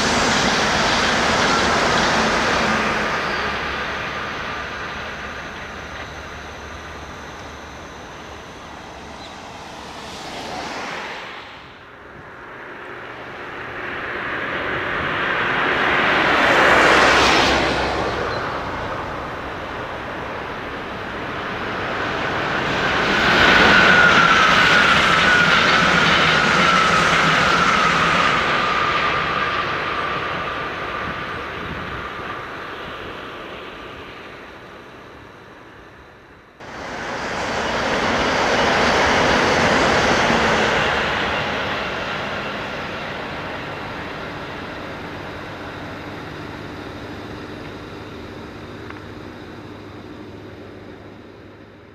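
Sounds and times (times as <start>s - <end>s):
high-speed trains passing: 0.0s - 51.9s
train whine sliding down in pitch: 0.0s - 51.9s.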